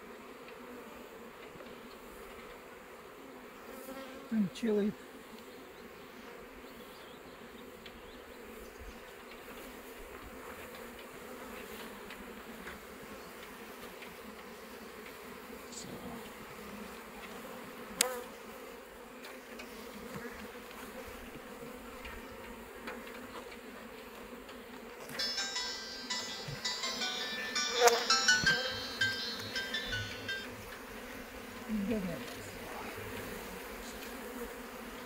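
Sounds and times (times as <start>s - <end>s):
bees buzzing: 0.0s - 35.0s.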